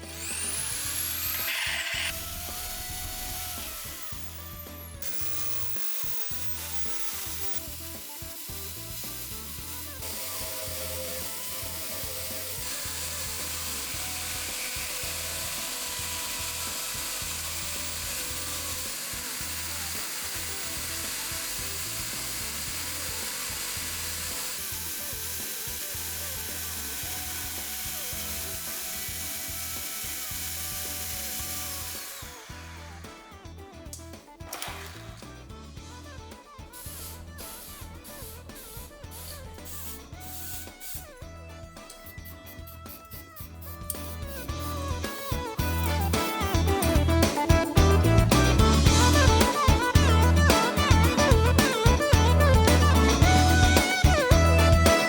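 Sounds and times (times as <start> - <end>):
power tool running: 0.0 - 35.7, 36.7 - 55.0.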